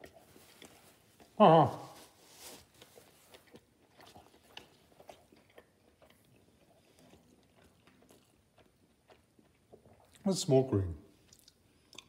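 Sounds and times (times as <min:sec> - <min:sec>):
faint chewing: 0:00.0 - 0:10.4, 0:11.1 - 0:12.0.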